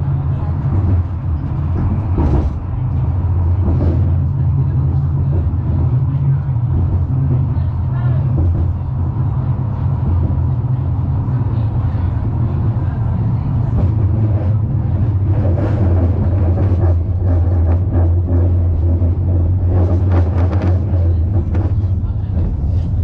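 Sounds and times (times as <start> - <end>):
tram rumbling in motion: 0.0 - 23.0.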